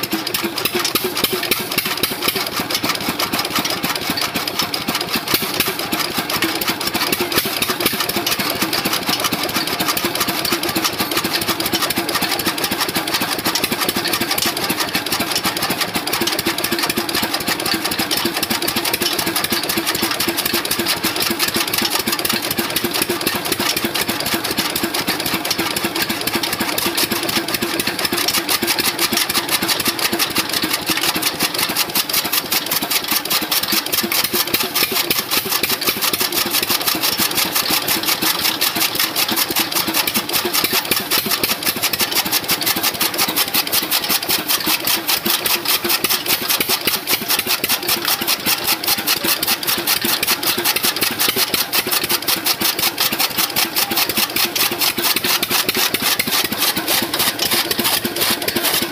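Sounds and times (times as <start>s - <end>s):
chaff cutter chopping fodder: 0.0s - 58.9s
diesel engine running: 0.0s - 58.9s.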